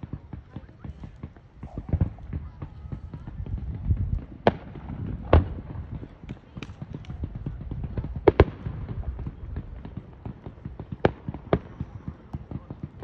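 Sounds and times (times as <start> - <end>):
firework pops and crackles: 0.0 - 13.0
loud firework bangs: 0.0 - 13.0.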